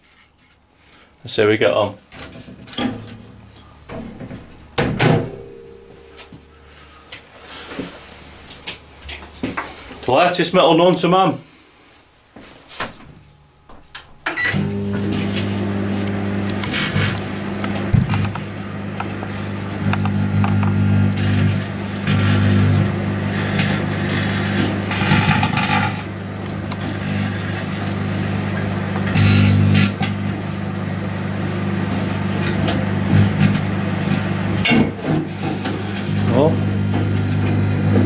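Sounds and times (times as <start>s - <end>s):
microwave oven humming: 2.1s - 10.3s, 13.0s - 38.0s.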